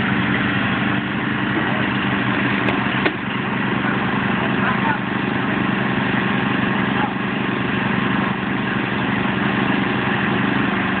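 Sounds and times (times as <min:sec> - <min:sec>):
lawn tractor engines running: 0:00.0 - 0:11.0.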